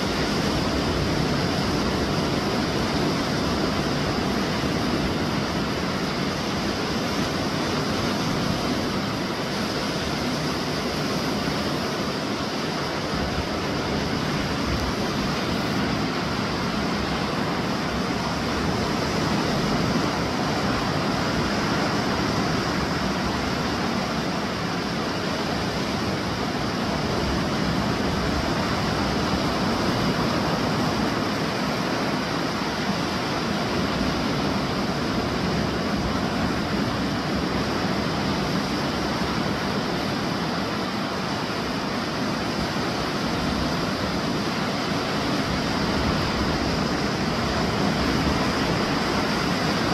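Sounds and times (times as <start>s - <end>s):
wind on microphone: 0.0s - 49.9s.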